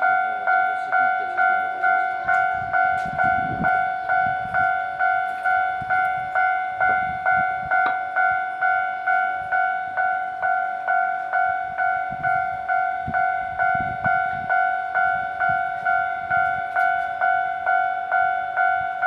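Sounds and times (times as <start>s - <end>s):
level crossing alarm bell: 0.0s - 19.0s.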